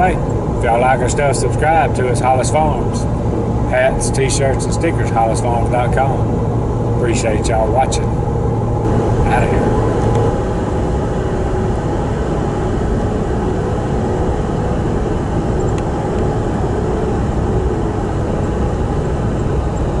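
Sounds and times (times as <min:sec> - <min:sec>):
vehicle road and engine noise: 0:00.0 - 0:20.0.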